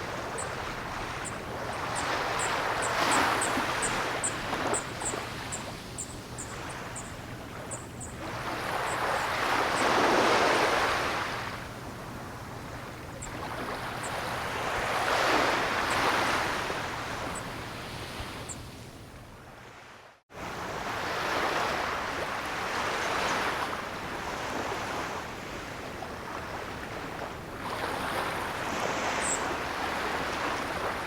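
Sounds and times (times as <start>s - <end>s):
ocean waves breaking: 0.0s - 18.5s, 19.8s - 31.0s.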